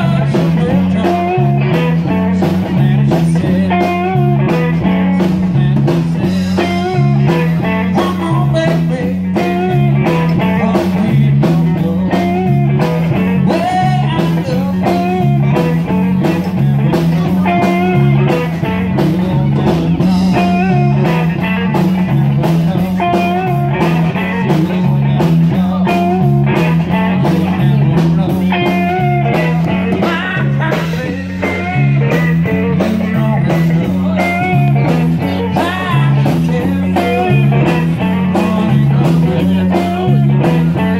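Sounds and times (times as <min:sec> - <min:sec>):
electric guitar: 0:00.0 - 0:40.9
repeating low bass line: 0:00.0 - 0:40.9
steady drum beats: 0:00.0 - 0:40.9.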